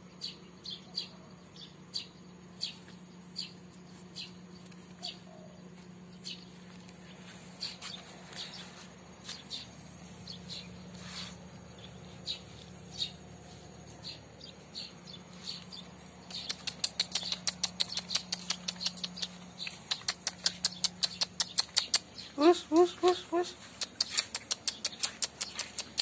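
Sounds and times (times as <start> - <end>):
faint low hum: 0.0 - 26.0
small birds chirping: 0.0 - 26.0.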